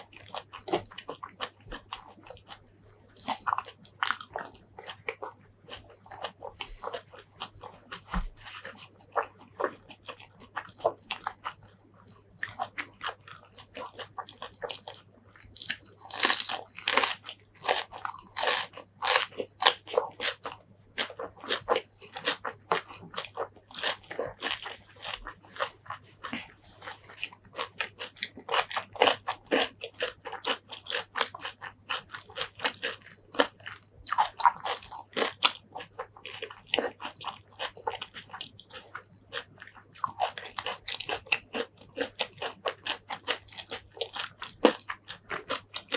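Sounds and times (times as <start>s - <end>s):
crunching raw vegetable stems: 0.0s - 45.9s.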